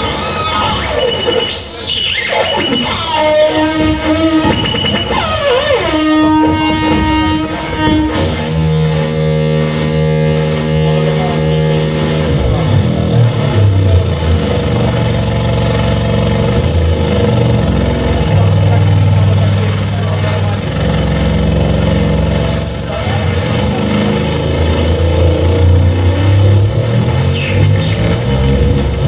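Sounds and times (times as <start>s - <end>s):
distorted harsh noise: 0.0s - 29.0s
droning electronic tones: 0.0s - 29.0s.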